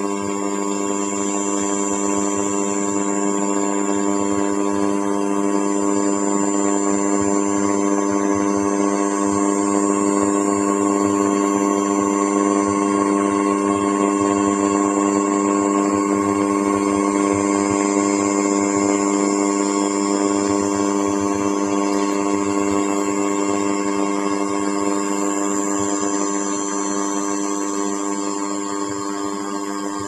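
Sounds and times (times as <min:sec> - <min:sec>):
laser scanner humming: 0:00.0 - 0:30.0
thin high whine: 0:00.0 - 0:30.0.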